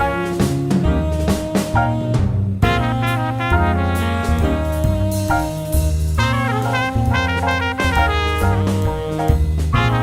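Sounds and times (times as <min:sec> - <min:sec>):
upbeat jazz tune: 0:00.0 - 0:10.0.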